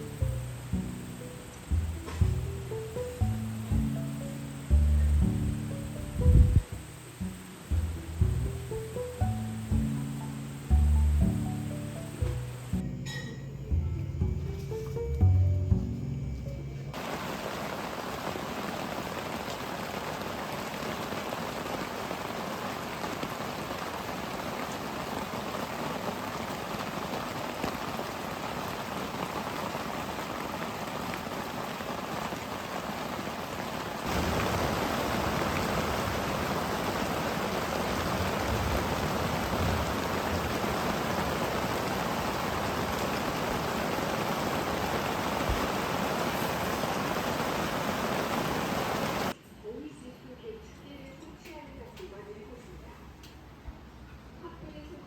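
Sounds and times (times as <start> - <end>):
water rushing: 0.0 - 12.8, 16.9 - 49.4.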